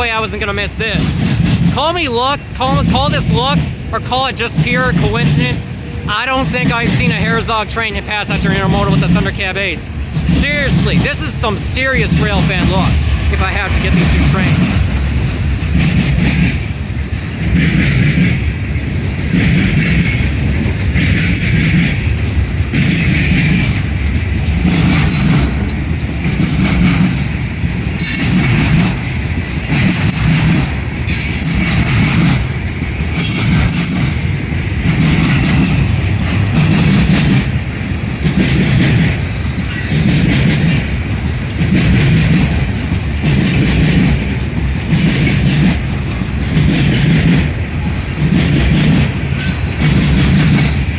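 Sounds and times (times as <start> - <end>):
train wheels clattering: 0.0 - 50.9.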